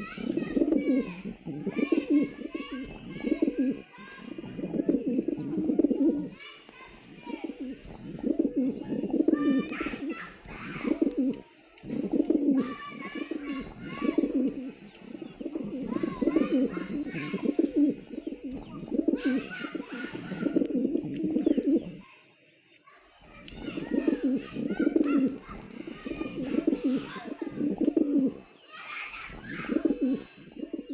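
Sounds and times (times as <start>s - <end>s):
pigeons cooing: 0.0s - 22.1s, 23.3s - 30.9s.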